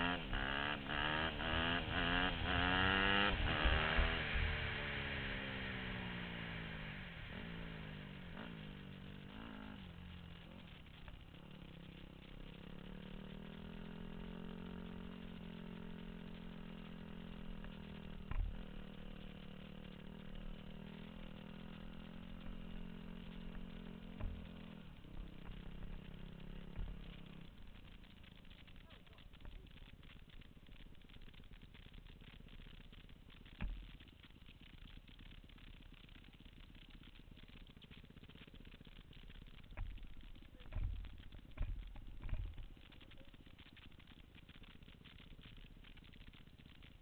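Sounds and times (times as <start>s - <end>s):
motorcycle engine: 0.0s - 47.0s.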